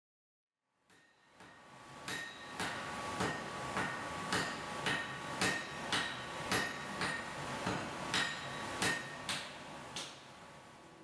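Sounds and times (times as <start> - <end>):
hammer striking metal on anvil: 0.9 - 10.2.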